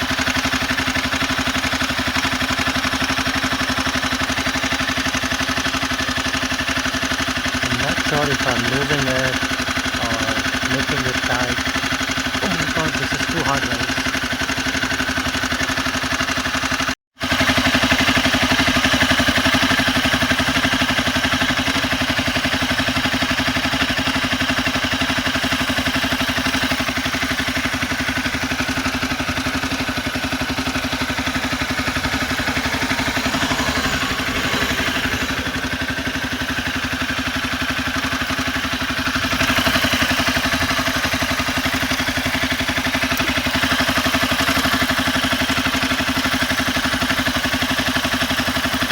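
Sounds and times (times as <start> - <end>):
motorcycle engine idling with clatter: 0.0 - 48.9.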